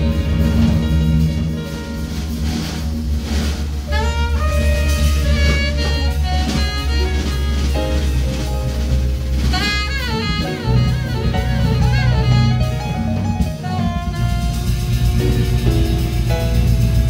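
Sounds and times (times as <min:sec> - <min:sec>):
alto saxophone melody: 0:00.0 - 0:17.0
bass: 0:00.0 - 0:17.0
drum kit: 0:00.0 - 0:17.0.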